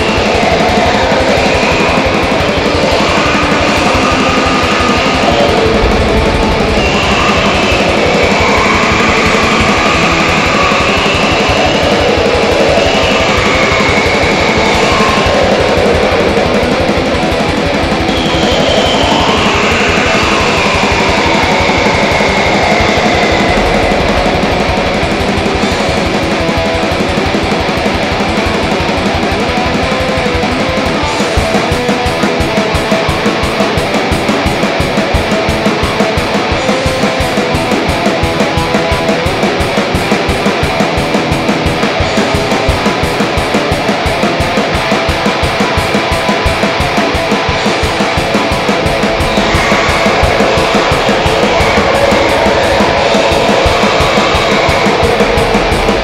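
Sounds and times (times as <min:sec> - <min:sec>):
distorted electric guitar: 0:00.0 - 0:56.0
drum kit: 0:00.0 - 0:56.0.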